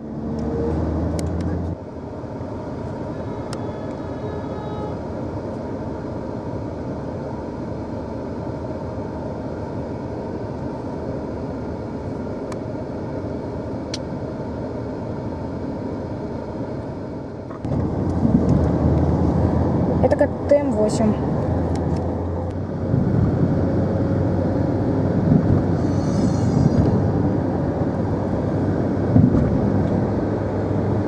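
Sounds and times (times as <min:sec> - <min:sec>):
vehicle idling: 0:00.0 - 0:31.0.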